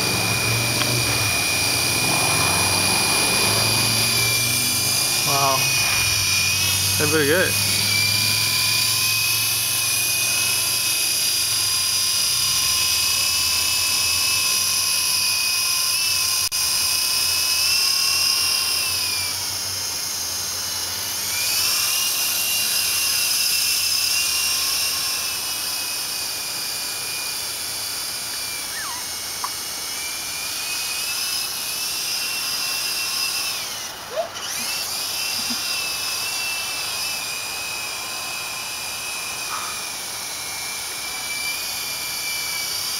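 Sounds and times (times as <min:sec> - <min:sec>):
rc helicopter motor whine: 0:00.0 - 0:42.9.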